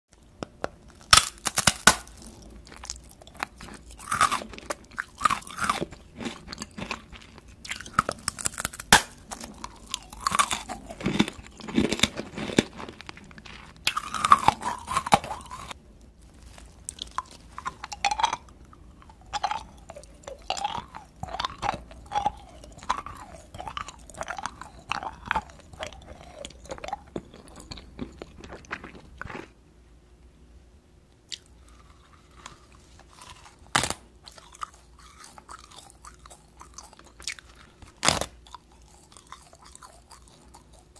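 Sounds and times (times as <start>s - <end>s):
crunching brittle candy: 0.4s - 29.5s, 31.3s - 40.9s
chewing and mouth noises: 1.0s - 29.6s, 31.3s - 40.9s.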